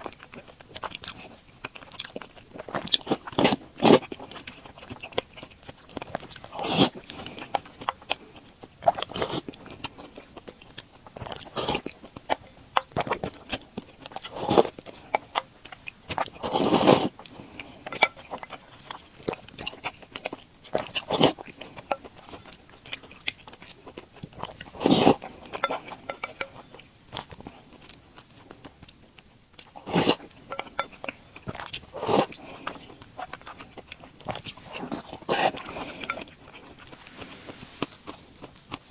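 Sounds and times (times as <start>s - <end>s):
person chewing and slurping: 0.0s - 29.0s, 29.6s - 38.9s.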